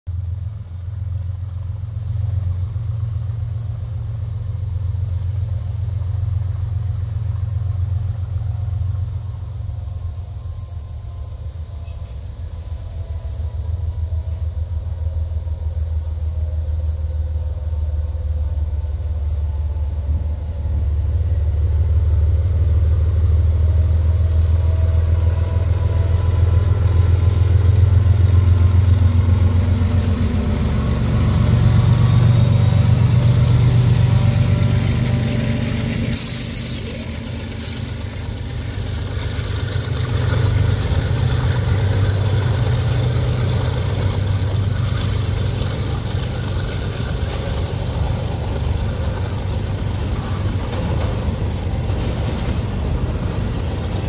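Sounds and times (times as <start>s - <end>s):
diesel locomotive engine rumble: 0.1s - 54.0s.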